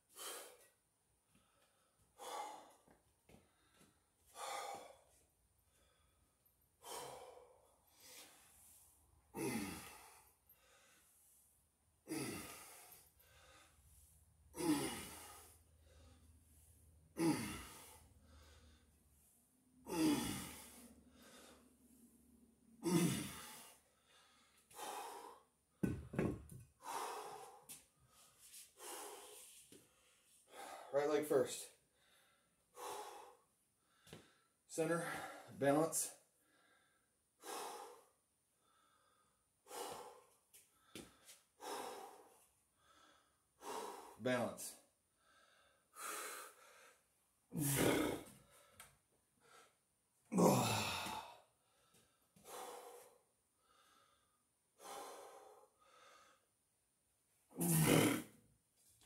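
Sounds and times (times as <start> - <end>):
man breathing hard: 0.0 - 30.9, 31.7 - 35.6, 36.3 - 44.2, 44.8 - 56.7.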